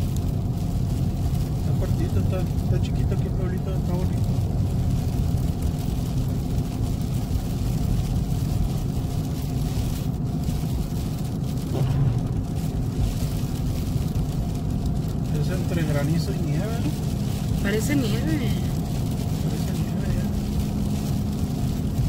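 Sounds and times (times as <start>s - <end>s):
vehicle engine and tyres rumbling: 0.0s - 22.0s.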